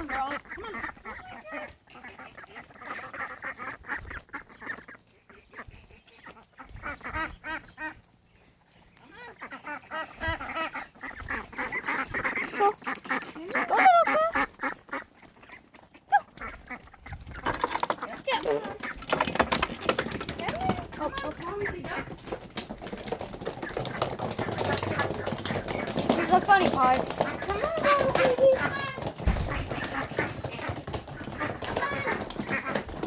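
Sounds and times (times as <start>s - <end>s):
ducks quacking: 0.0s - 33.0s.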